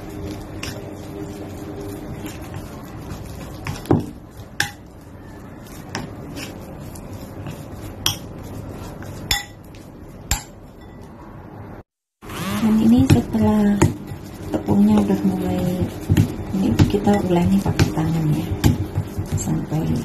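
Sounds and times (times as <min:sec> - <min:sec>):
fork scraping dough in bowl: 0:00.0 - 0:10.3, 0:12.6 - 0:20.0.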